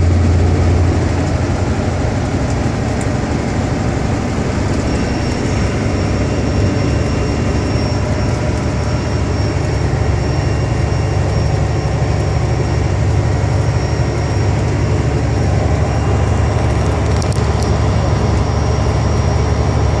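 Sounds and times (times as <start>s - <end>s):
truck engine and road rumble: 0.0s - 20.0s
thin high whine: 3.7s - 20.0s.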